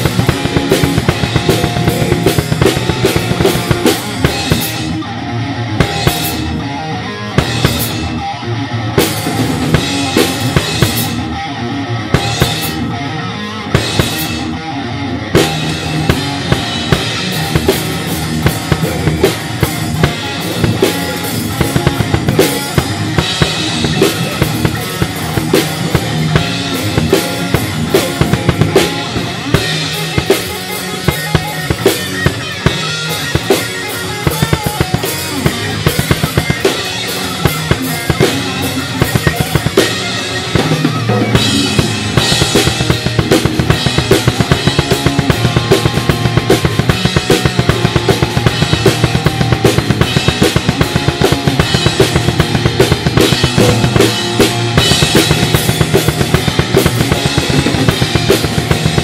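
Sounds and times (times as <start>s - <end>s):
drum kit rock beat: 0.0s - 59.0s
recorded music: 0.0s - 59.0s.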